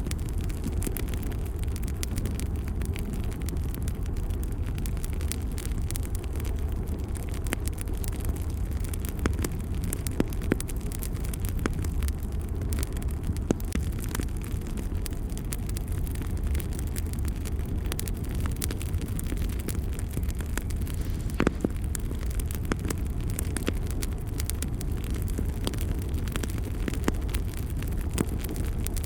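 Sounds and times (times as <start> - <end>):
fire crackling and popping: 0.0 - 29.0
low fire rumble: 0.0 - 29.0.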